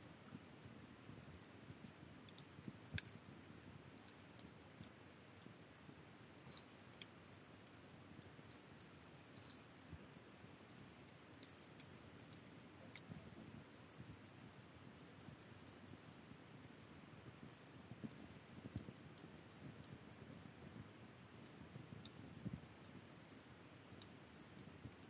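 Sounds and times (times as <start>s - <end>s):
campfire crackling and popping: 0.2s - 25.0s.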